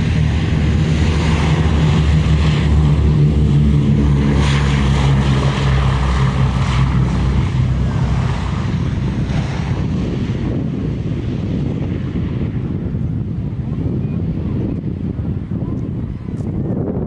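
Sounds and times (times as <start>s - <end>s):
propeller aircraft engines drone: 0.0s - 17.0s.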